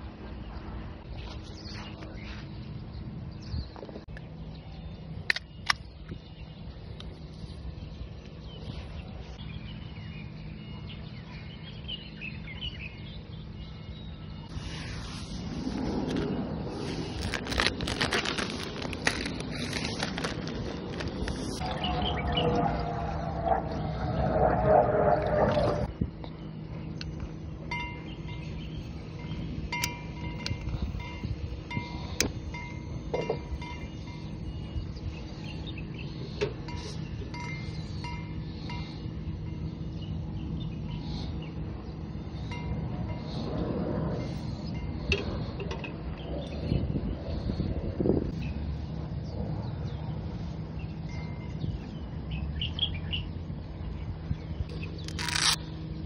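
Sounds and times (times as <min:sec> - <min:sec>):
wind against microphone: 0:00.0 - 0:55.8
small birds chirping: 0:00.3 - 0:15.5, 0:16.1 - 0:24.2, 0:24.8 - 0:43.6, 0:44.2 - 0:56.0.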